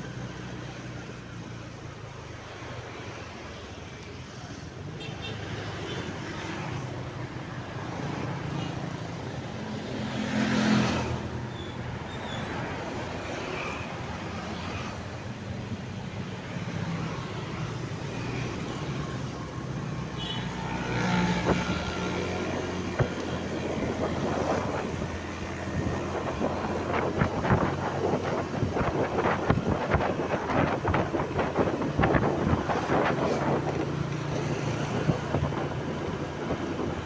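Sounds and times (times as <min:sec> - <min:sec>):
motor vehicle rumble: 0:06.8 - 0:37.0.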